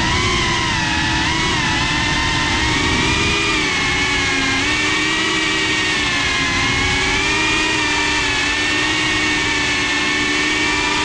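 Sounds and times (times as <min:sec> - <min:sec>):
rushing noise: 0:00.0 - 0:09.6
drone motors whining: 0:00.0 - 0:11.0.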